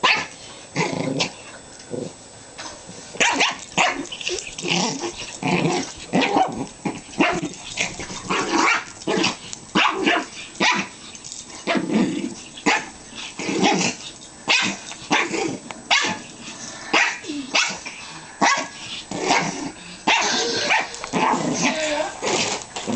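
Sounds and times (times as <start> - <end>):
dogs growling and barking: 0.0 - 22.9.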